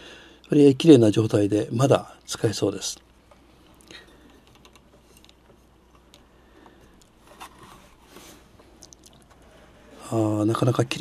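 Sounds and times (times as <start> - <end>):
low room hiss: 0.0 - 11.0.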